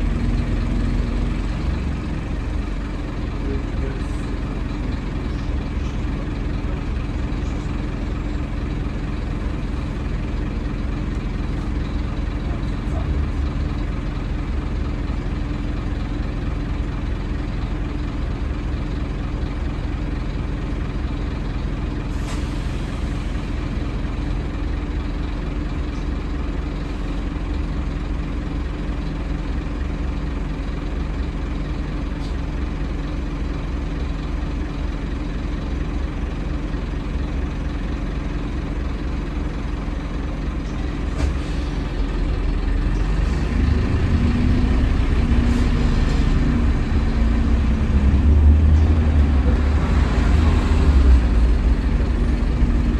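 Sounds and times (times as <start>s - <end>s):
bus diesel engine running: 0.0s - 52.9s.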